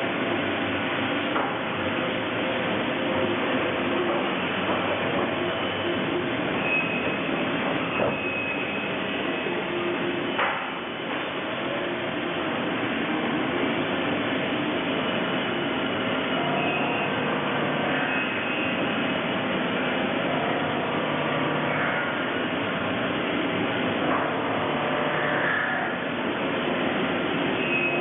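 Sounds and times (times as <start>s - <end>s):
lathe machine running: 0.0s - 28.0s.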